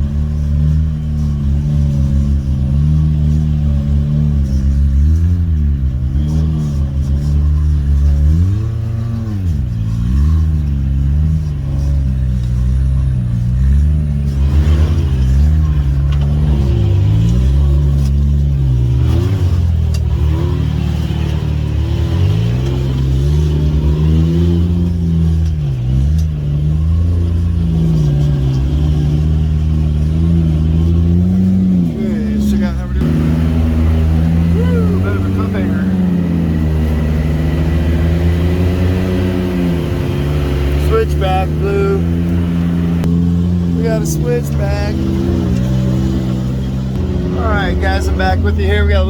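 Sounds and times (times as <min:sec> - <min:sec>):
engine revving: 0:00.0 - 0:49.0.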